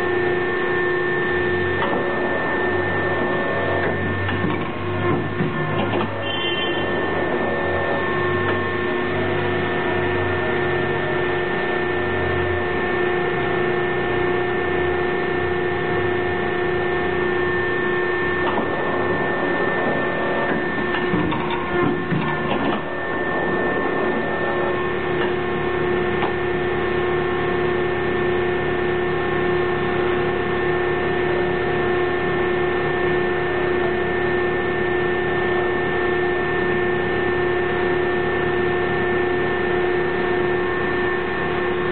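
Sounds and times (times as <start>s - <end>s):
hydraulic press humming: 0.0s - 41.9s
pump tones: 0.0s - 41.9s.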